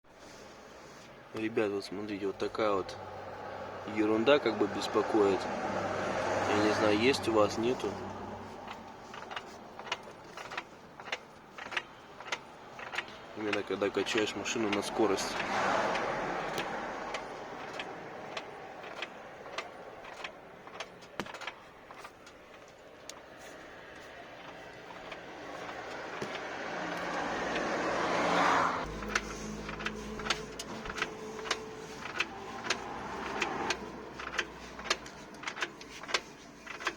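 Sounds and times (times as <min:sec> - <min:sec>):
sharp knocks from car drivetrain: 0:04.8 - 0:36.9.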